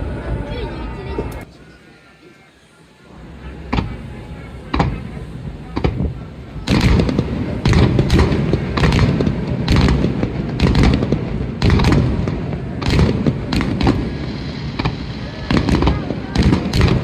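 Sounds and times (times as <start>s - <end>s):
continuous rumble: 0.0s - 17.0s
fireworks bangs: 3.3s - 17.0s.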